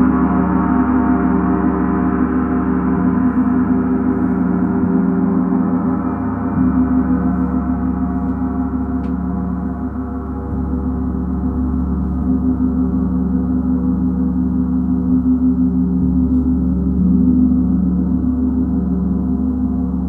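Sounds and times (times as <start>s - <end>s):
gong resonating: 0.0s - 20.0s.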